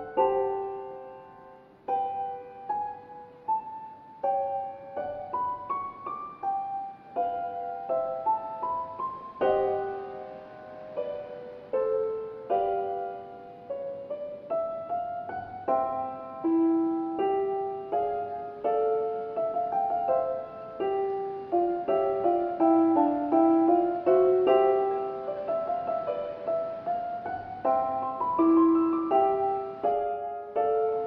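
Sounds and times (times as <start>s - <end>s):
gentle piano music: 0.0s - 31.0s.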